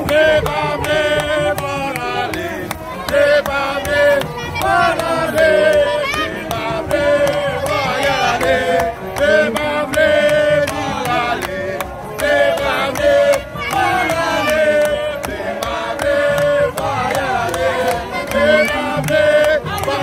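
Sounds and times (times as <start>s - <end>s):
quick steady beat: 0.0s - 20.0s
voices chanting a melody: 0.0s - 20.0s.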